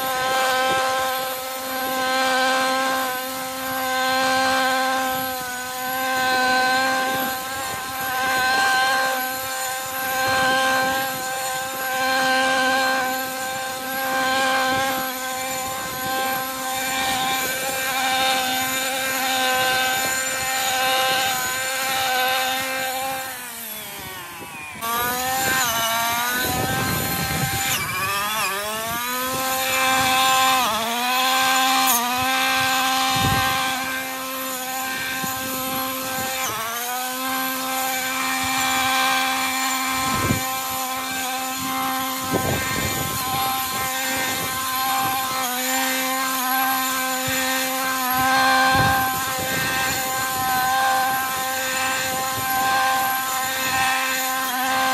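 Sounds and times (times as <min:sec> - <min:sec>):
brushcutter engine revving: 0:00.0 - 0:54.9.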